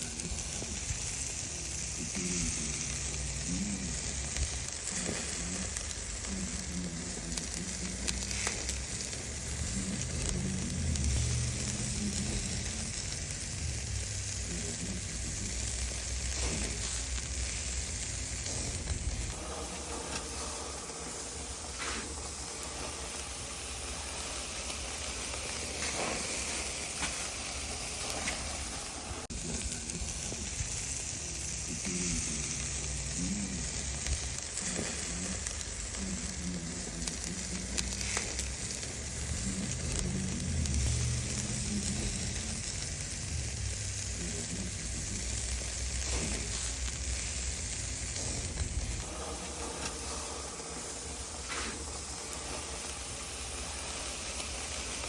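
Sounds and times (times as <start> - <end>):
chicken wings sizzling: 0.0 - 55.0.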